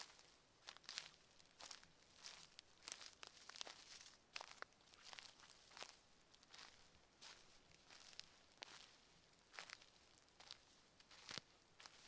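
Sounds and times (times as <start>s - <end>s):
footsteps crunching in forest: 0.0s - 12.0s.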